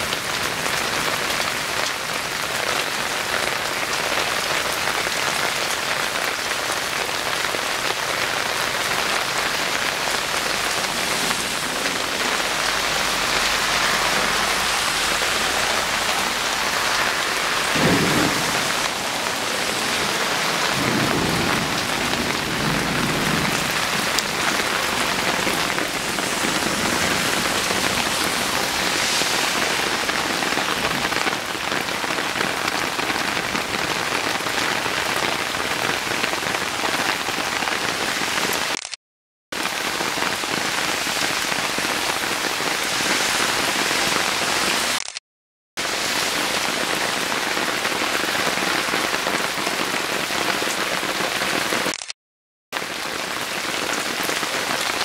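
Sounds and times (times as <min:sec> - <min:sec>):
heavy rain falling: 0:00.0 - 0:45.2, 0:45.8 - 0:52.1, 0:52.7 - 0:55.0.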